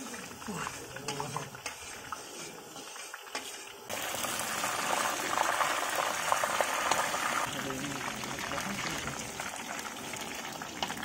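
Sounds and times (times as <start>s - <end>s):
batter deep-frying in oil: 0.0s - 11.0s.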